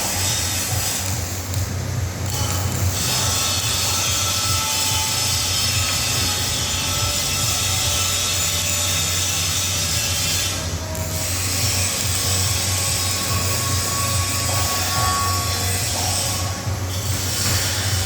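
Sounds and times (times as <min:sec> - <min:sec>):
workshop machinery hiss and hum: 0:00.0 - 0:18.0.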